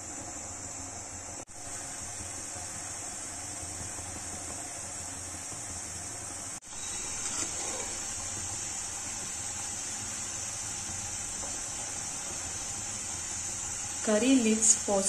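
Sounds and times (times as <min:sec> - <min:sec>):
butter sizzling: 0:01.0 - 0:15.0.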